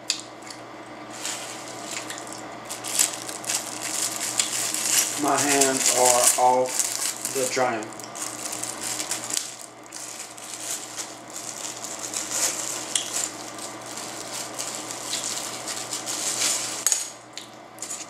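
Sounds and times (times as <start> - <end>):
wrapping crackle: 1.0 - 18.0
paper and plastic crinkling: 1.1 - 17.1, 17.8 - 18.0.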